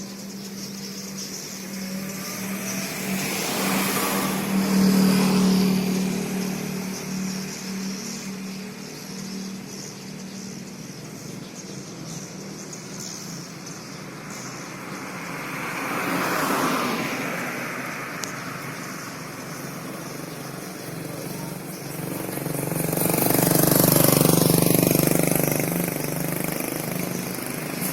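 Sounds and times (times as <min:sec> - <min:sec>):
vehicles passing by: 0:00.0 - 0:27.9.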